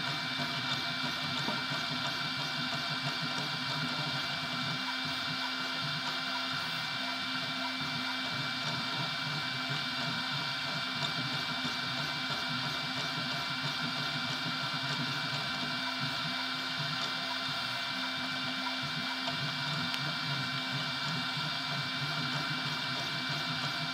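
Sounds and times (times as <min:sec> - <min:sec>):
printer motors whining: 0:00.0 - 0:23.9.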